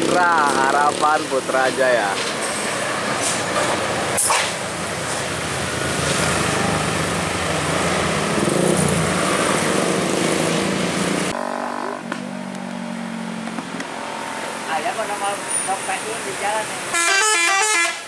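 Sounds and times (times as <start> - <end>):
bus passing close: 0.0 - 11.4, 12.2 - 18.0.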